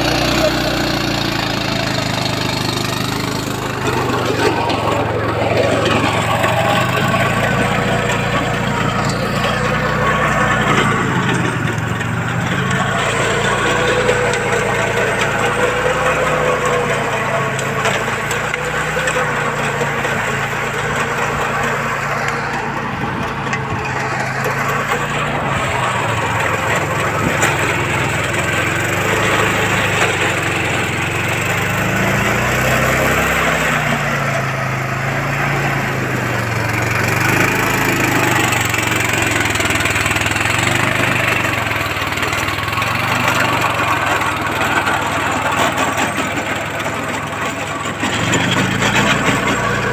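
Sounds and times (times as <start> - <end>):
rotavator churning: 0.0 - 49.9
tractor engine under load: 0.0 - 49.9.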